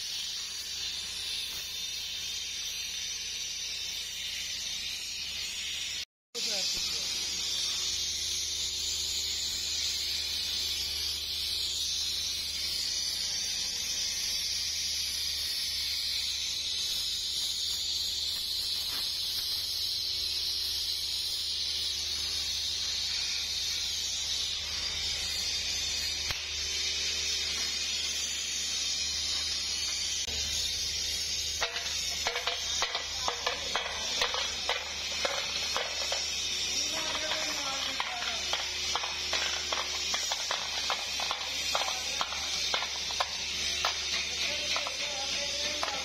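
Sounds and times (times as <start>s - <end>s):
gas torch flame hissing: 0.0s - 46.0s.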